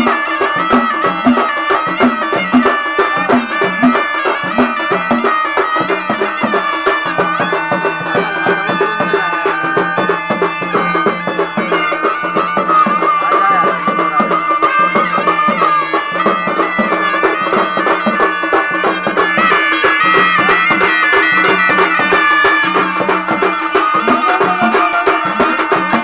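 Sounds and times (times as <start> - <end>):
quick drum beats: 0.0 - 26.0.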